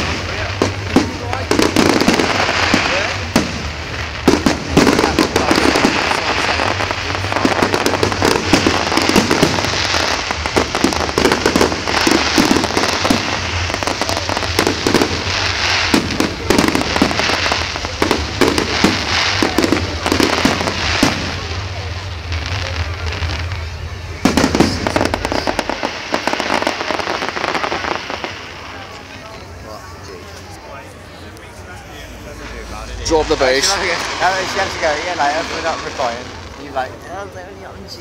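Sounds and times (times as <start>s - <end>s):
fireworks banging and crackling: 0.0s - 38.0s.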